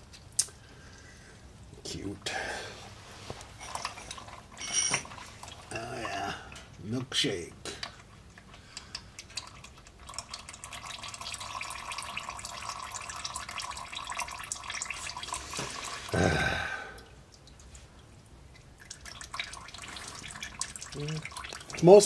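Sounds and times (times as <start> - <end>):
oil trickling into a pan: 3.1 - 6.9, 7.6 - 22.0.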